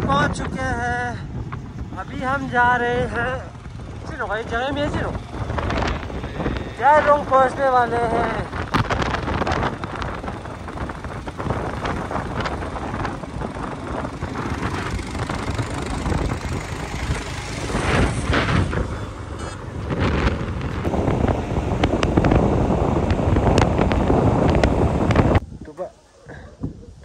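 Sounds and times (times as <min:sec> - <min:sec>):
motorcycle engine: 0:00.0 - 0:25.5
wind buffeting microphone: 0:00.0 - 0:27.0.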